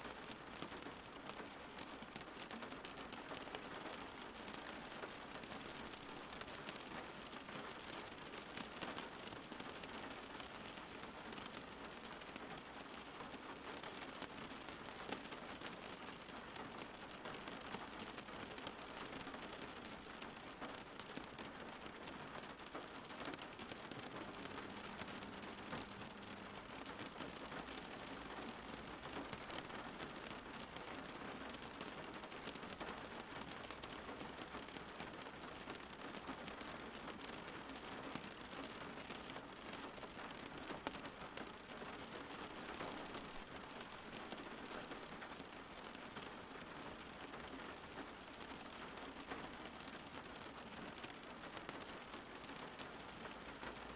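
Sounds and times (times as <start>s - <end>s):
soft rainfall: 0.0s - 53.9s.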